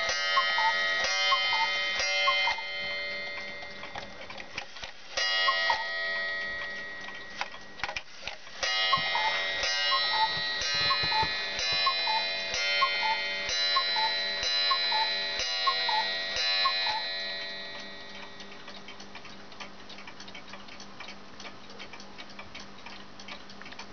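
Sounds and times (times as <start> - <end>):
clock ticking: 0.0 - 23.9
cuckoo clock call: 0.0 - 23.9.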